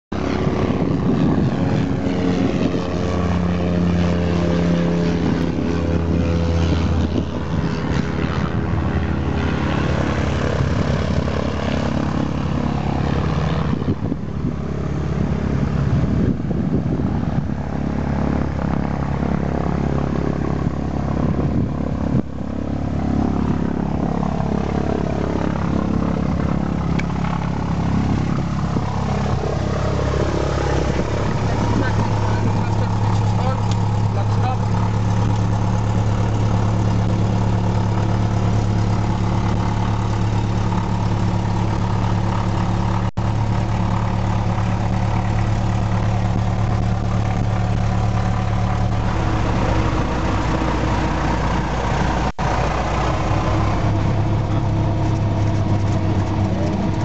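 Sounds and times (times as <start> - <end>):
propeller aircraft engine humming: 0.0 - 57.0.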